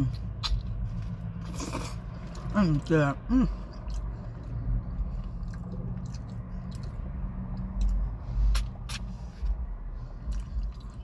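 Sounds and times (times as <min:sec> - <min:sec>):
low rumble: 0:00.0 - 0:11.0
person chewing food: 0:00.0 - 0:11.0.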